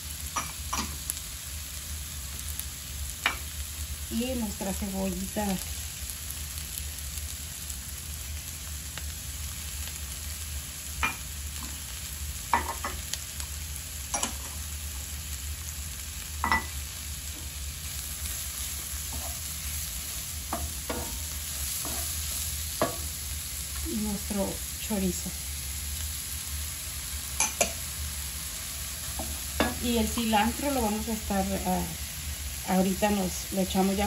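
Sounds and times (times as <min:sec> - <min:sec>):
vegetables sizzling in fat: 0:00.0 - 0:34.0.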